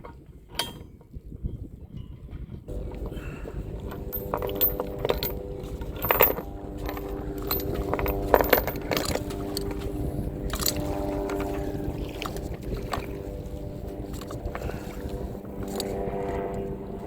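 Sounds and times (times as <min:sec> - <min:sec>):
low rumble: 0:02.6 - 0:17.0
anchor chain clinking: 0:02.7 - 0:16.5
steady hum: 0:02.7 - 0:17.0.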